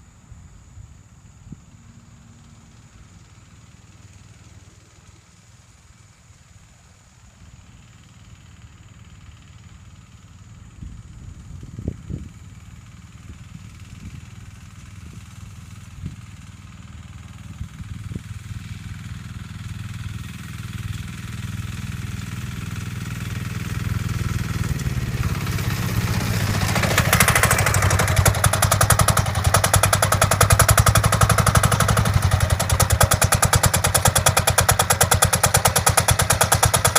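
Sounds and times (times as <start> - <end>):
go-kart engine chugging: 0.0 - 36.9.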